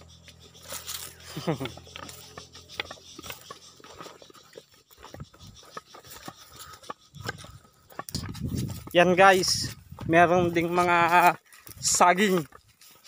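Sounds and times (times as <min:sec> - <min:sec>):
footsteps on gravelly soil: 0:00.0 - 0:13.0.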